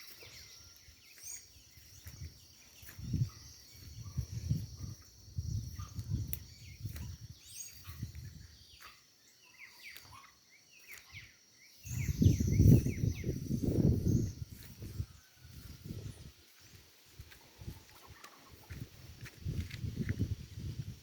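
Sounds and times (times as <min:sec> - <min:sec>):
high insect trill: 0:00.0 - 0:17.7
small birds chirping: 0:00.0 - 0:21.0.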